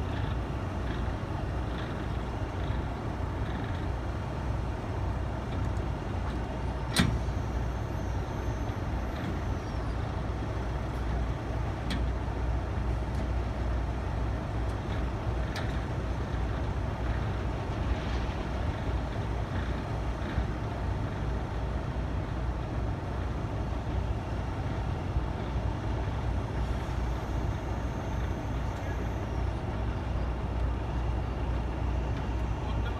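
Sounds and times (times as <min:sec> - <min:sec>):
diesel truck engine idling: 0:00.0 - 0:17.6, 0:18.7 - 0:32.9.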